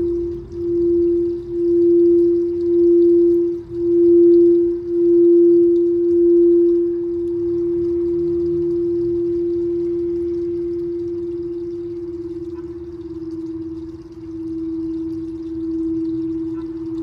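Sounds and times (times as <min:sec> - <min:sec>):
crystal singing bowl note: 0:00.0 - 0:17.0.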